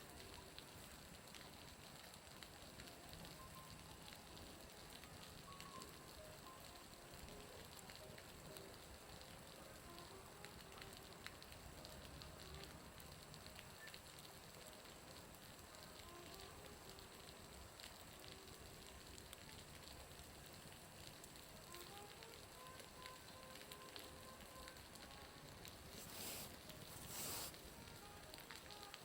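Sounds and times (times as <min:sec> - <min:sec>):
bonfire crackling: 0:00.0 - 0:29.0
faint music: 0:00.0 - 0:29.0
meltwater dripping off roof: 0:00.0 - 0:29.0.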